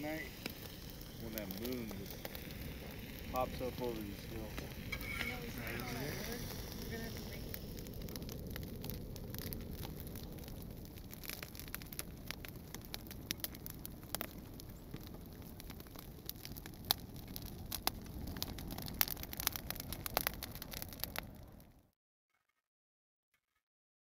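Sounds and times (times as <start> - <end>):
low rumble: 0.0 - 21.7
campfire crackling: 0.0 - 21.8.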